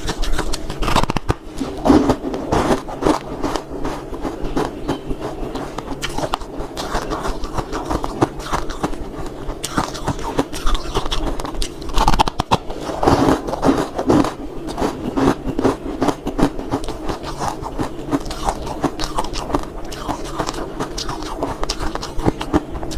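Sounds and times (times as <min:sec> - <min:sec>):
ice being crunched and chewed: 0:00.0 - 0:22.9.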